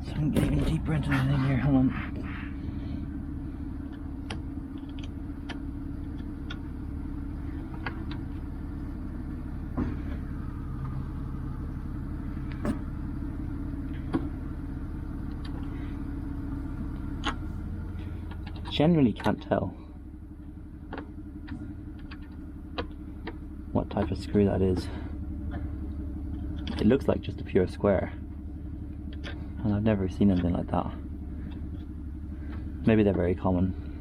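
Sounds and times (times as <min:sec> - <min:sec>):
steady low motor hum: 0:00.0 - 0:34.0.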